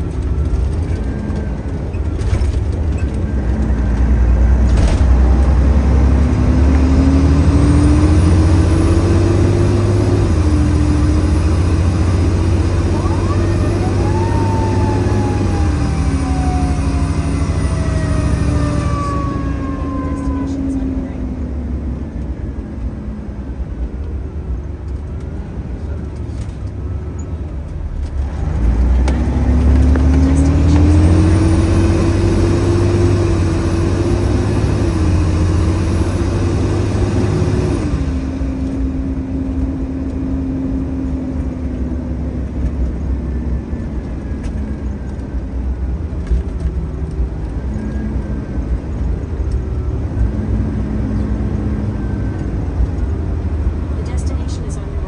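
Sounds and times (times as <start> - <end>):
diesel engine from inside cab: 0.0 - 55.0.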